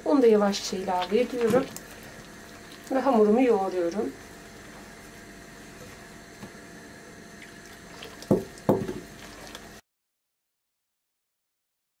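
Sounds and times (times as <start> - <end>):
hand mixing wet dough: 0.1 - 9.8.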